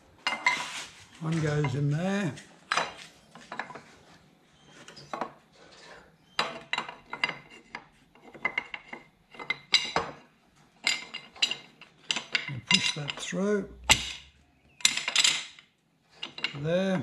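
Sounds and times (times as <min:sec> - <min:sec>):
metal brackets clinking and scraping: 0:00.2 - 0:02.0, 0:02.7 - 0:03.9, 0:04.8 - 0:16.9.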